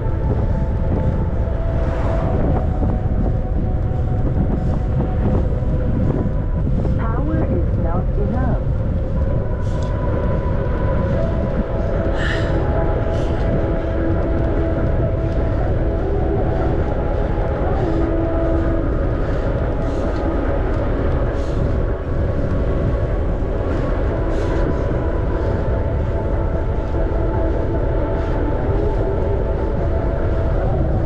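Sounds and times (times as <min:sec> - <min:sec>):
bicycle wind and rolling noise: 0:00.0 - 0:31.0.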